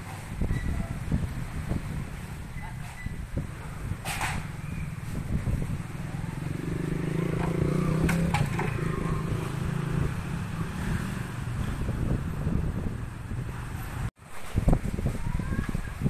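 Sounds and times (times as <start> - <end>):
vehicle engine hum: 0.0 - 14.2.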